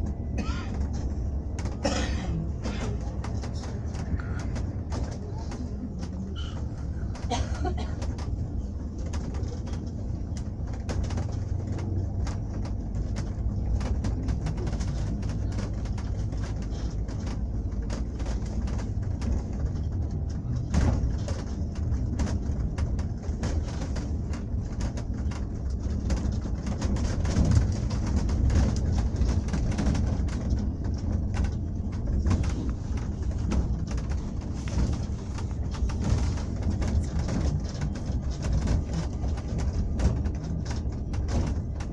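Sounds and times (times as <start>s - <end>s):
engine and road rumble: 0.0s - 41.9s
small rattles and knocks: 0.0s - 41.9s.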